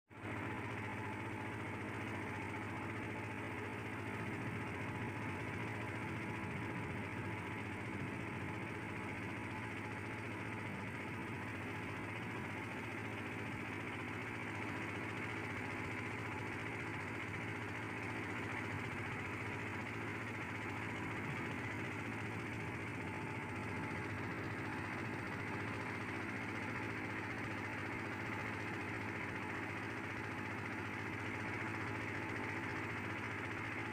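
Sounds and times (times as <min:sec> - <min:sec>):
boat engine droning: 0:00.2 - 0:33.9.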